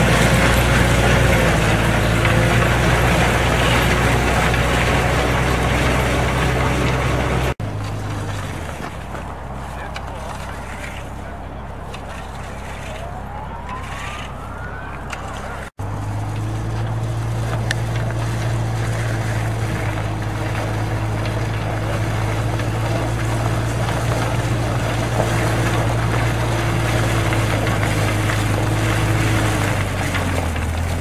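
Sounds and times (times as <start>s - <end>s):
diesel engine running under load: 0.0s - 31.0s
roller breaking ice: 0.0s - 31.0s.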